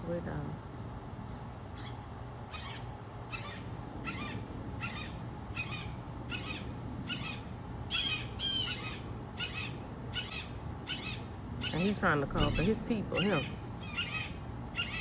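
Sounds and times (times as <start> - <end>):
bird squawking: 1.8 - 15.0.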